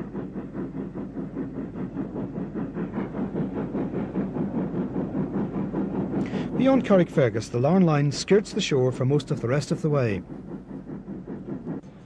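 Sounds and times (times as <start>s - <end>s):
steam locomotive exhaust beating: 0.0s - 12.0s.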